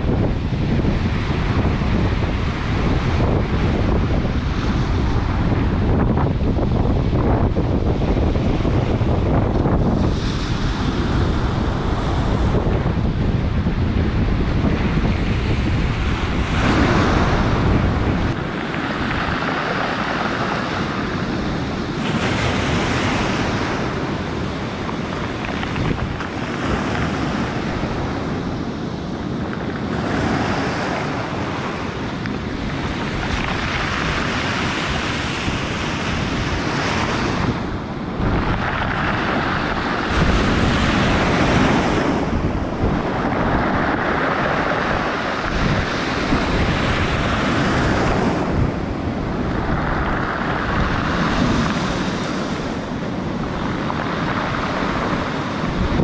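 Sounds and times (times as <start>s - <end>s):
heavy waves breaking: 0.0s - 56.0s
roar of the sea: 0.0s - 56.0s
wind buffeting microphone: 0.0s - 56.0s.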